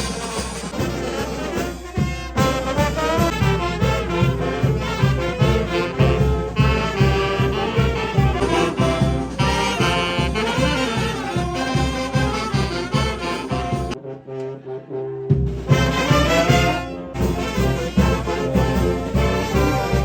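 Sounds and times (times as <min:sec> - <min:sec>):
brass band dance tune: 0:00.0 - 0:20.0
bass drum beat: 0:01.9 - 0:14.0, 0:15.4 - 0:20.0.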